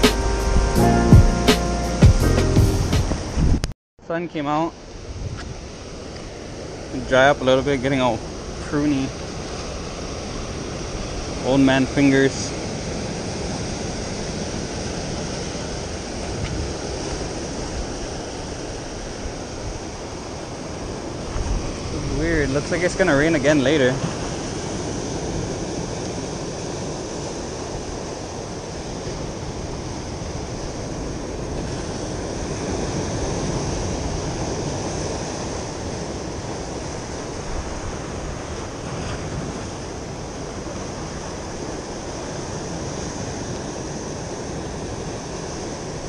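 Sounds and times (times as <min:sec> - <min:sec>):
ocean surf over rocks: 0:03.0 - 0:46.0.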